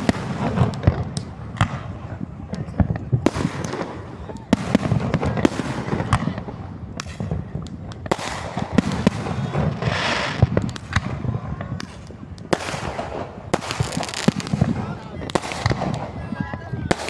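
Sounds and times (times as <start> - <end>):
fireworks cracking and banging: 0.0 - 17.0
fireworks hissing crackle: 0.0 - 17.0.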